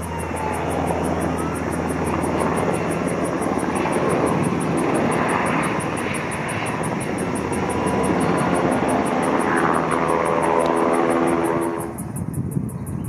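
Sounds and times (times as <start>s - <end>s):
engine tones: 0.0s - 13.0s
helicopter rotor rumble: 0.0s - 13.0s.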